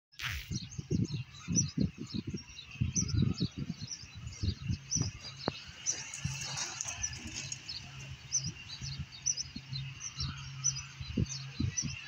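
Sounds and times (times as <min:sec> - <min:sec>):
small birds chirping: 0:00.2 - 0:12.0
low rumbling wind gusts: 0:00.3 - 0:12.0.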